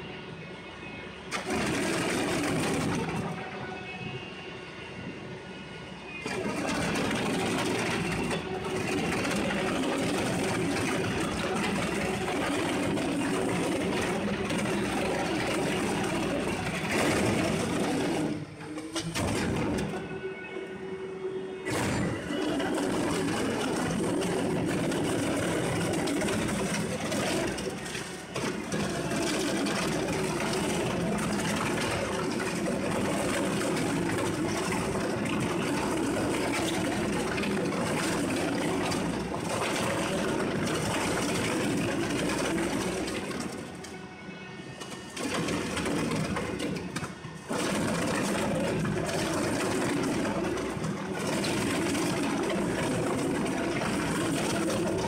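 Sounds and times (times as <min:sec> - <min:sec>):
shredder grinding paper: 0:01.3 - 0:03.4, 0:06.2 - 0:20.0, 0:21.7 - 0:44.0, 0:44.8 - 0:55.0.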